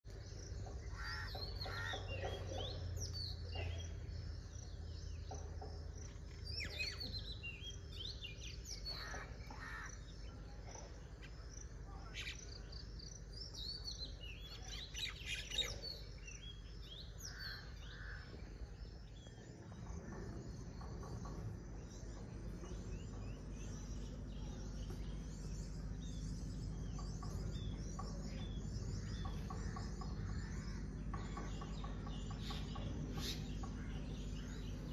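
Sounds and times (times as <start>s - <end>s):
steady low hum: 0.0s - 34.9s
birds chirping and calling: 0.1s - 34.9s.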